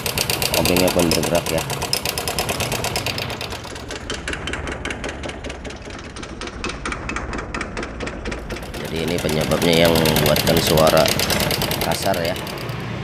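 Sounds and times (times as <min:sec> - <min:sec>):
engine knocking clatter: 0:00.0 - 0:13.0.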